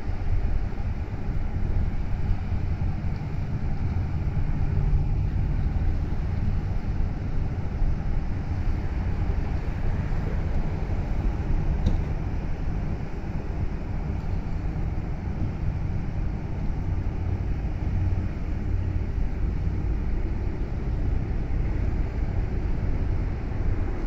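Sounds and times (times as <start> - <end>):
ferry diesel engines rumbling: 0.0 - 24.0.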